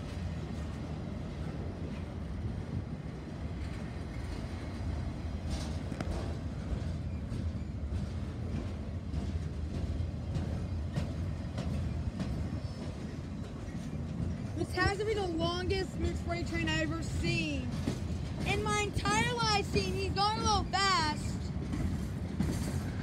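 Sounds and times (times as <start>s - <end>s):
steel wheels rumbling on rail: 0.0s - 23.0s.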